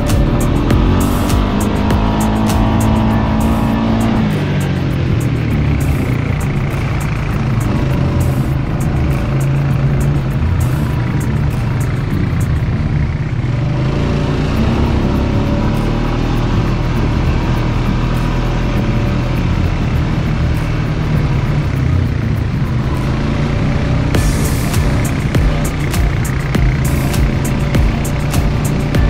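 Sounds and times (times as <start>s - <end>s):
quad bike engine running: 0.0s - 29.0s.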